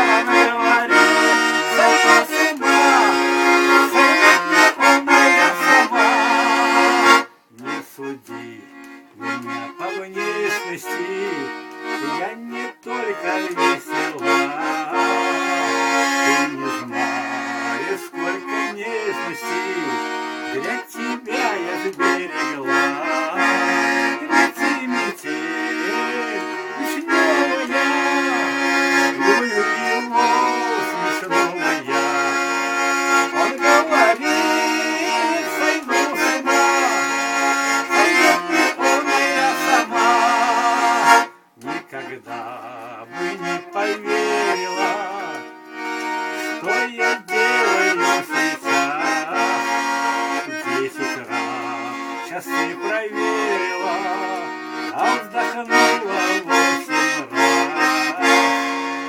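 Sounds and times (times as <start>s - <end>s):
accordion playing chords: 0.0s - 59.0s.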